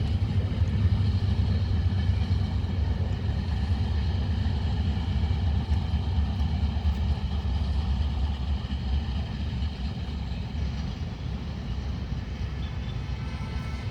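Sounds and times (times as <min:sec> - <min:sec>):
train coaches rumbling past: 0:00.0 - 0:13.9.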